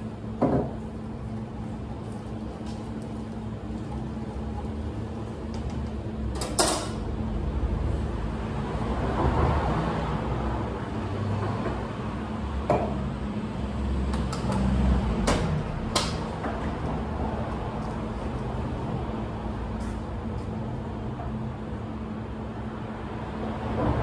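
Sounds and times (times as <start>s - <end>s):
low rumble of machinery: 0.0s - 24.0s.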